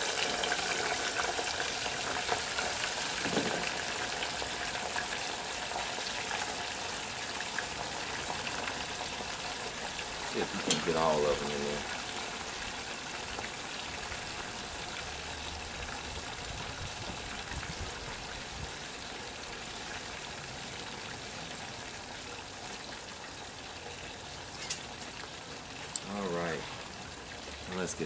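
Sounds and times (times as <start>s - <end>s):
fries sizzling in oil: 0.0s - 28.0s.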